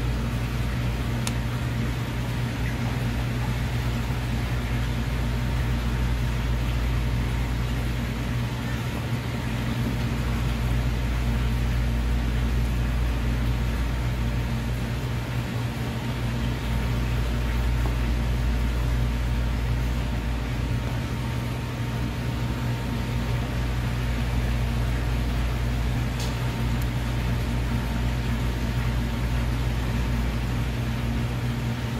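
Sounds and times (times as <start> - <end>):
low machine hum: 0.0 - 31.9.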